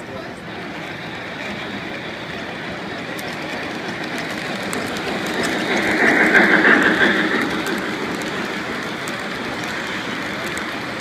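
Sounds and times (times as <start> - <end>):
model train wheels rumbling: 0.0 - 11.0.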